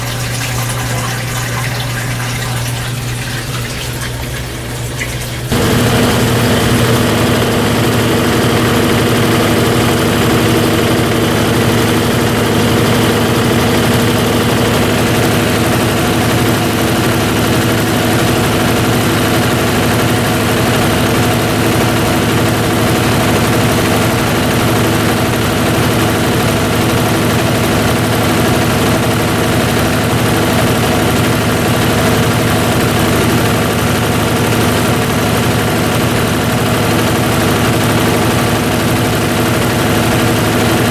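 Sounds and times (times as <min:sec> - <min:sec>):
washer drain pump humming: 0:00.0 - 0:40.9
water being pumped out: 0:00.0 - 0:40.9.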